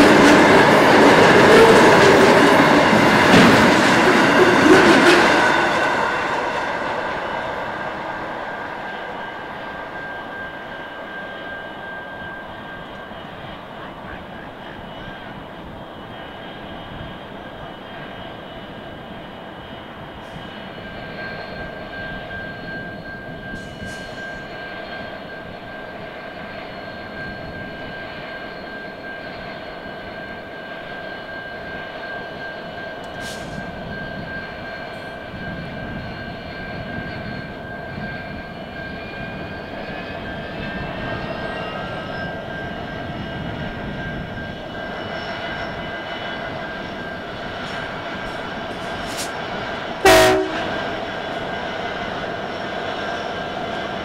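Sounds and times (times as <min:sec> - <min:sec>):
high whining tones: 0:00.0 - 0:54.0.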